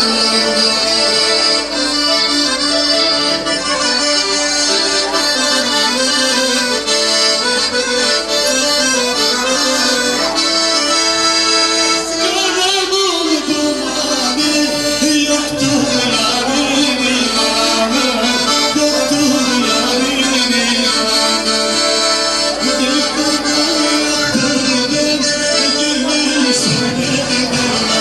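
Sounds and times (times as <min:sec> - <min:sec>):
accordion dance tune: 0:00.0 - 0:28.0.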